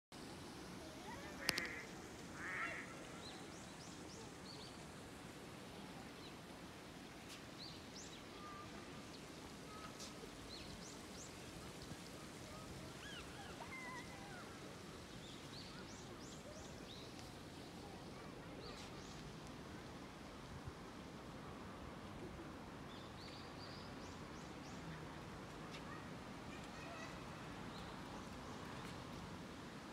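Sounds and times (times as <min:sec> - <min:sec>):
low background noise: 0:00.1 - 0:29.9.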